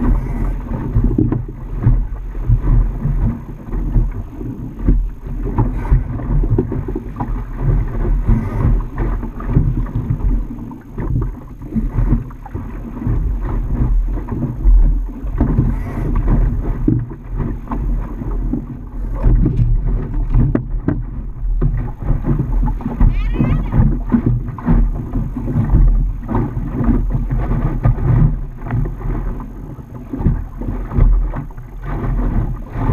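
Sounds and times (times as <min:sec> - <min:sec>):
water slapping boat hull: 0:00.0 - 0:32.9
wind buffeting microphone: 0:00.0 - 0:32.9.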